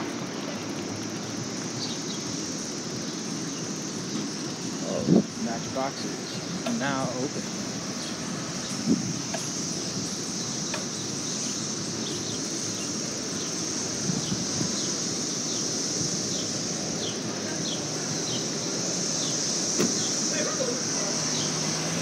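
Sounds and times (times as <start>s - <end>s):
insects droning: 0.0s - 22.0s
street noise rumble: 0.0s - 22.0s.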